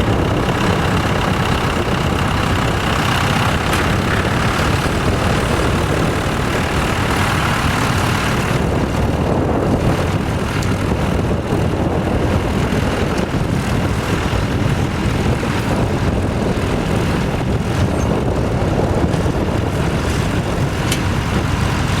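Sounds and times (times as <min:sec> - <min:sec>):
tractor engine running: 0:00.0 - 0:22.0
wind buffeting microphone: 0:00.0 - 0:22.0.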